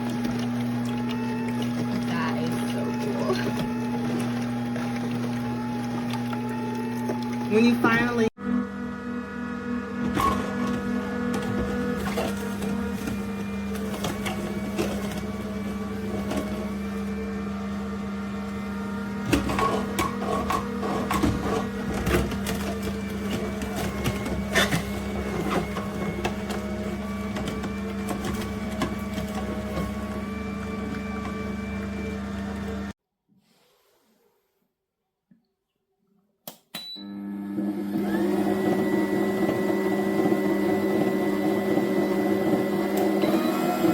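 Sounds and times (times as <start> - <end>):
juicer motor humming: 0.0 - 33.0, 37.0 - 43.9.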